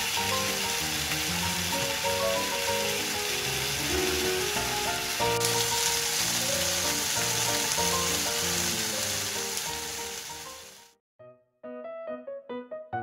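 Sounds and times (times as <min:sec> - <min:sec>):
pork sizzling in a frying pan: 0:00.0 - 0:11.0.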